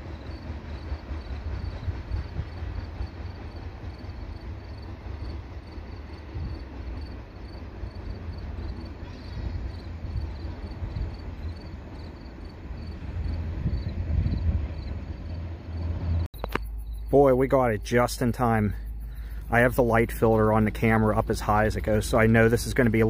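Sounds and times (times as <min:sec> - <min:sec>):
crickets chirping: 0:00.0 - 0:23.0
low uneven rumble: 0:00.0 - 0:23.0.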